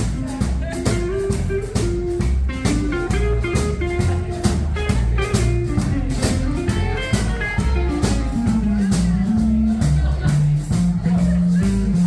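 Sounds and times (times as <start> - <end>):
bass guitar: 0.0 - 12.0
lead guitar melody: 0.0 - 12.0
steady drum beat: 0.0 - 12.0.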